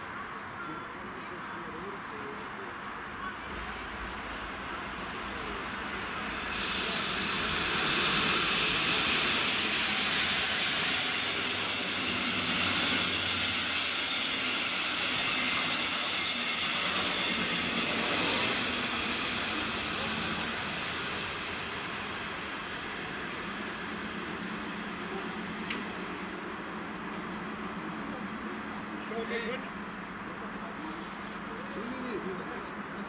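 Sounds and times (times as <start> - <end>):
passenger train wheels on rails: 0.0 - 33.0.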